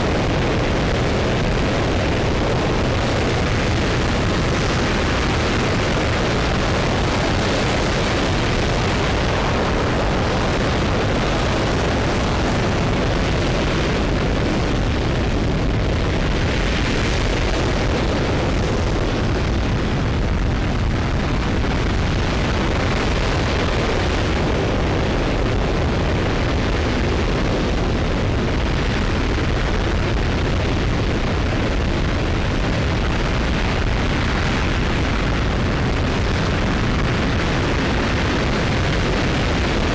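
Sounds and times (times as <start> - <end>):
rocket engine roaring: 0.0 - 39.9.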